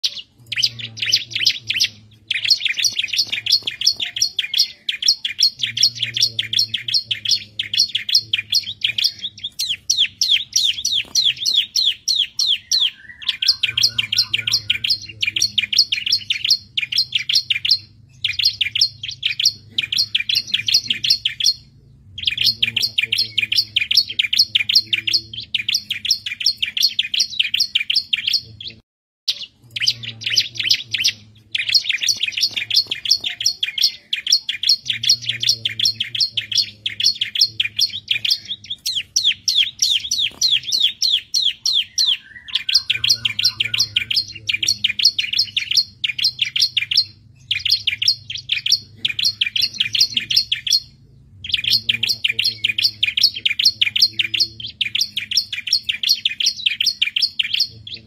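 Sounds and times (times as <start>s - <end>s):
bird singing rapid high chirps: 0.0s - 58.0s.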